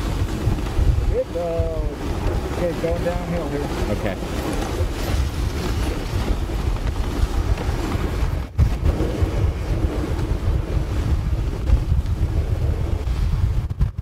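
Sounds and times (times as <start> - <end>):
sled runners over snow: 0.0 - 14.0
wind buffeting microphone: 0.0 - 14.0.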